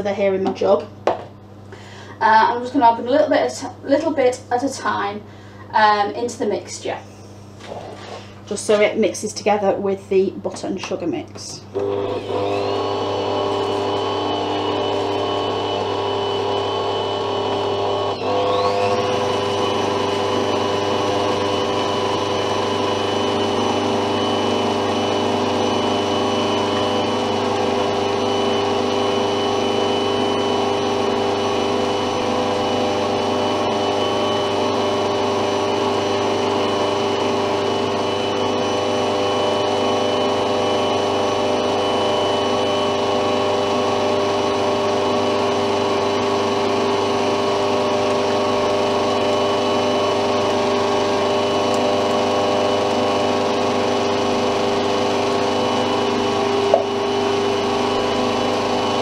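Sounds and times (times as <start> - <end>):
stand mixer motor whining: 11.7 - 59.0
beater mixing in steel bowl: 11.8 - 59.0.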